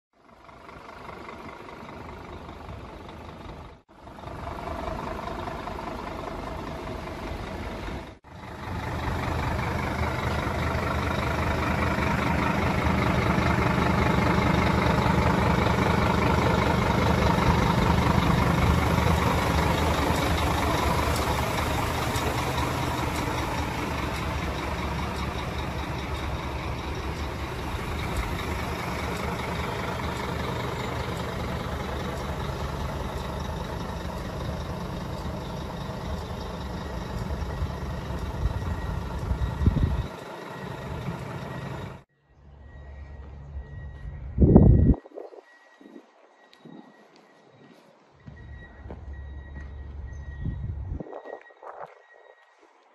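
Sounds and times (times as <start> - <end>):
diesel engine idling: 0.1 - 45.0, 48.1 - 51.0.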